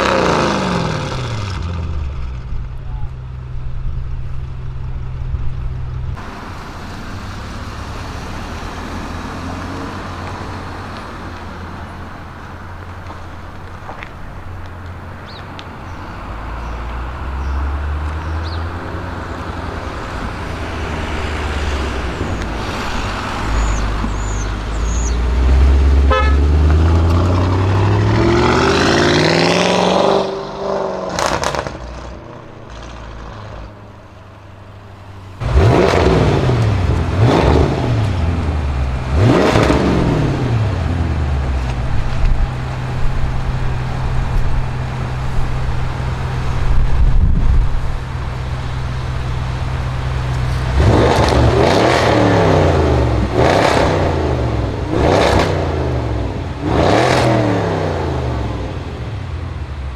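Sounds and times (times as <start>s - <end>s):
car engine accelerating: 0.0s - 59.9s
engine revving and idling: 0.0s - 59.9s.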